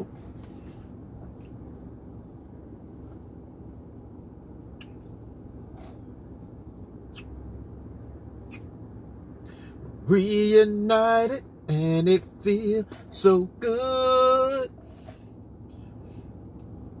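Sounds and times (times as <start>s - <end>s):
car cabin hum: 0.0s - 17.0s.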